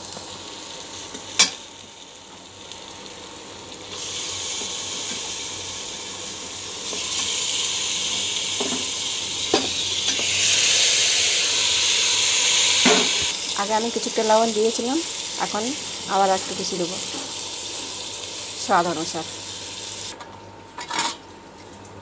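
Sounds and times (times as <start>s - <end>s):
meat sizzling in hot masala: 0.0s - 20.2s.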